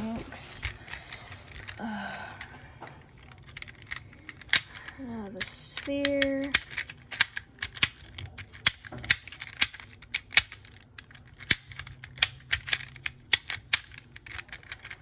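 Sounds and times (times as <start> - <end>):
plastic puzzle clicking: 0.5 - 15.0.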